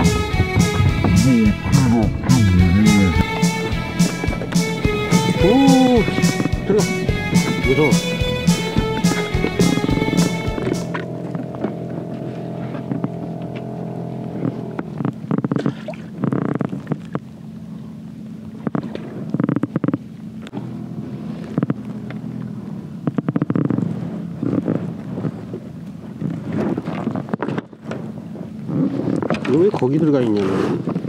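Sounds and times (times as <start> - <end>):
boat engine humming: 0.0 - 31.0.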